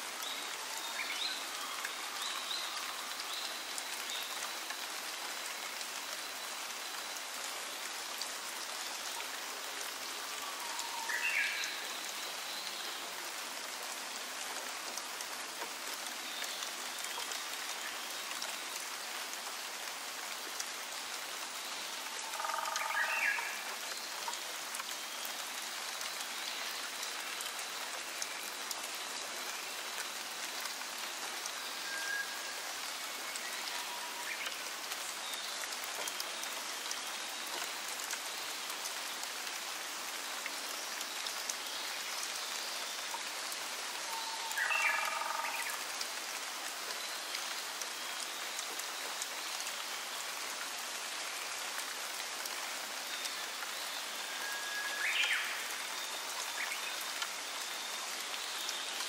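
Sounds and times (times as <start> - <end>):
rain falling on foliage: 0.0 - 59.0.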